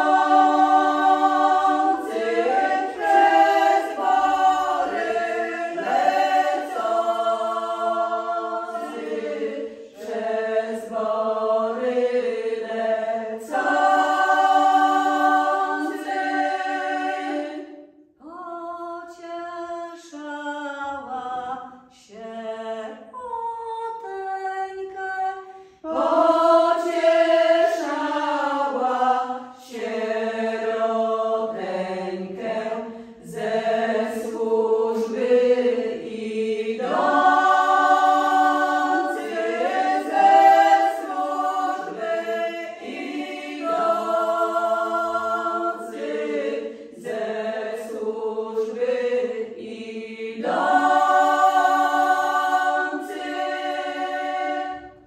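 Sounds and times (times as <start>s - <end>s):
women's vocal group singing: 0.0s - 55.0s.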